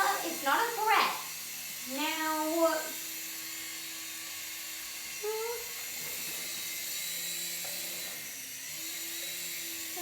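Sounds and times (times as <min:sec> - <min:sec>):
toy helicopter rotors whirring: 0:00.0 - 0:10.0.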